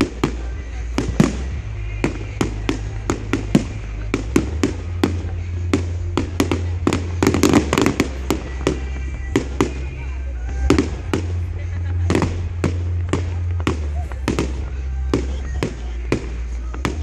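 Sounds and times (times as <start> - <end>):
fireworks bangs and crackling: 0.0 - 17.0
music playing: 0.0 - 17.0.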